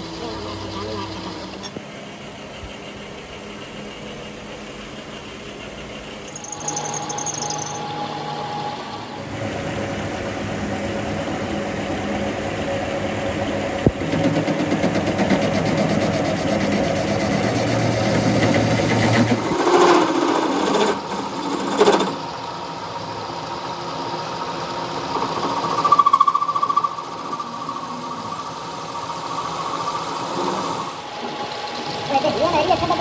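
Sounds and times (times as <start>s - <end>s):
steady machine whine: 0.0s - 33.0s.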